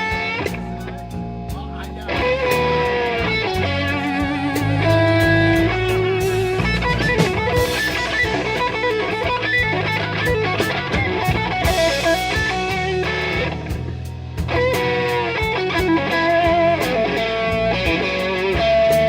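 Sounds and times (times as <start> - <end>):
blues band playing: 0.0 - 19.0
electric guitar lead: 0.0 - 19.0.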